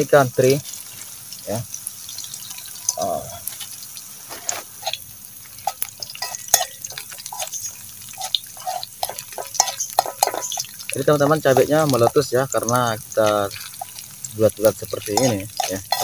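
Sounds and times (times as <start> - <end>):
food sizzling in hot oil: 0.0 - 16.0
chilies popping in oil: 0.4 - 16.0.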